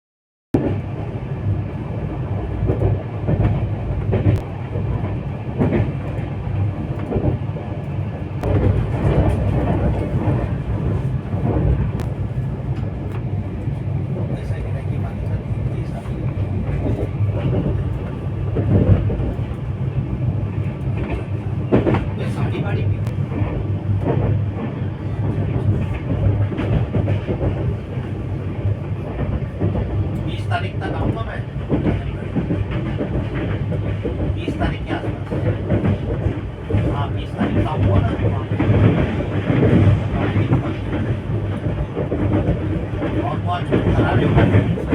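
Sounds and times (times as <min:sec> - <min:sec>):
train rumbling on rails: 0:00.6 - 0:44.9.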